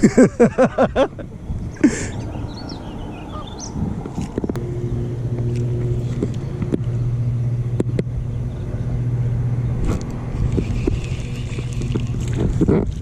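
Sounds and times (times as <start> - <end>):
boat motor running: 0.7 - 13.0.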